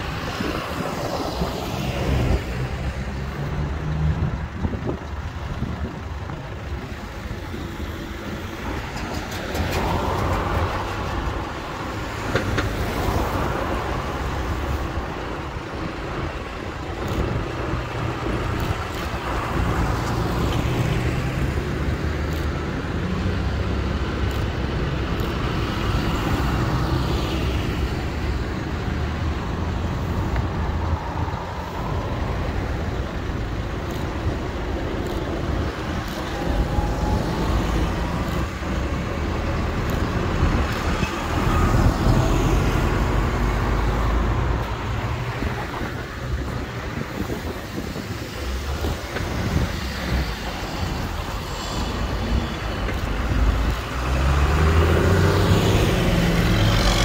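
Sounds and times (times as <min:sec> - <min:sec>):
tractor diesel engines droning: 0:00.0 - 0:57.0
tyres hissing on wet road: 0:09.8 - 0:57.0.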